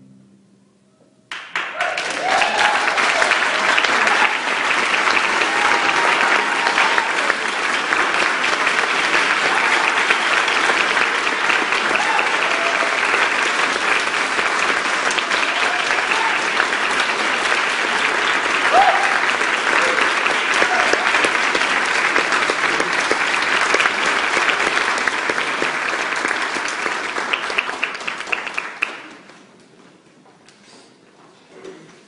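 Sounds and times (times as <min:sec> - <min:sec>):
audience applauding: 0:01.3 - 0:29.6.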